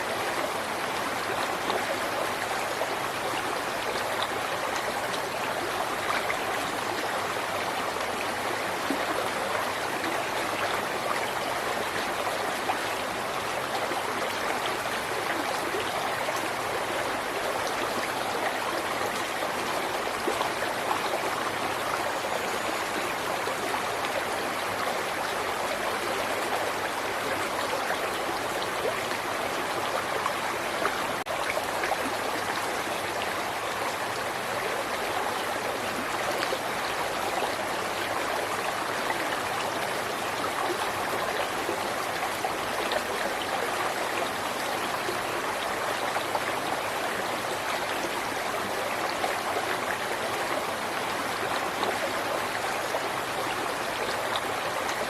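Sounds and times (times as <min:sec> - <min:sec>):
river water babbling over rocks: 0:00.0 - 0:55.0.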